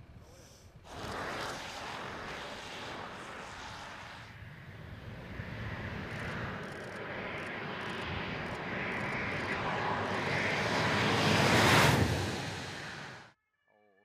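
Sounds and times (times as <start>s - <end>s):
passing car engine and tyres: 0.9s - 13.3s.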